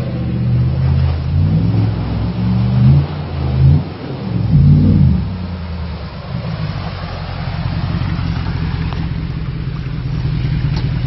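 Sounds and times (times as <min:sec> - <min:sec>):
engine exhaust rumbling: 0:00.0 - 0:11.0.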